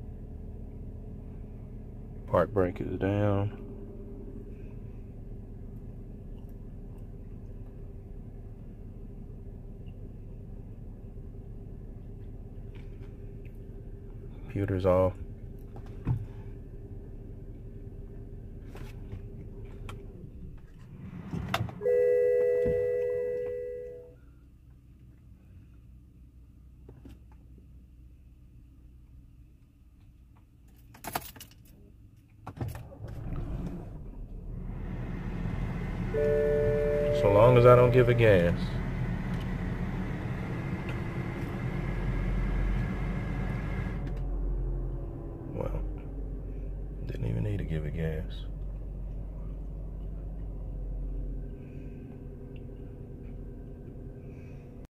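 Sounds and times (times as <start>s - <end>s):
car engine starting and running: 0.0s - 54.9s.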